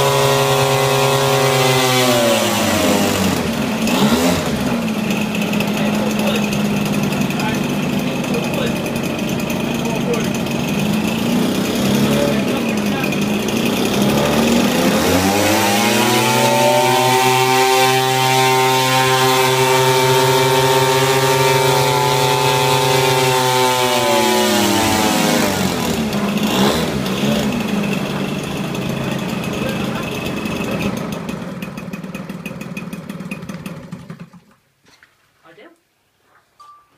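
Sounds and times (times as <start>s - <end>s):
model aircraft engine revving: 0.0s - 34.4s.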